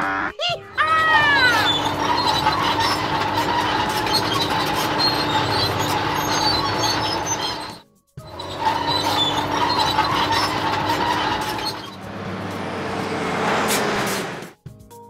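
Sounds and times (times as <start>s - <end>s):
machine grinding: 0.7s - 14.6s.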